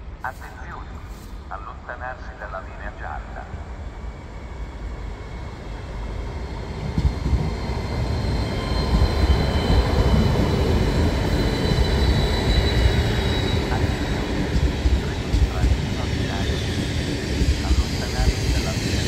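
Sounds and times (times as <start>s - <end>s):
train wheels rumbling: 3.4s - 19.0s.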